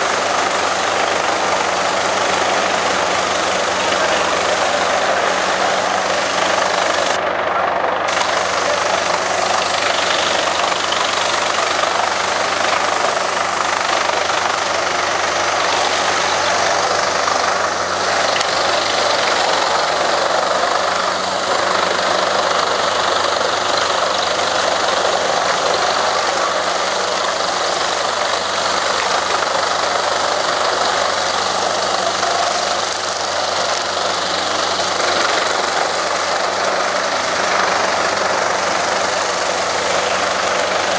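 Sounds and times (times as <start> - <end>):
wood chips blown out: 0.0 - 7.2, 8.1 - 40.9
wood chipper running: 0.0 - 40.9.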